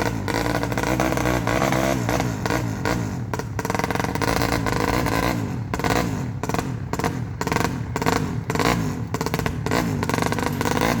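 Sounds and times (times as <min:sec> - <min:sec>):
engine revving with throttle blips: 0:00.0 - 0:11.0.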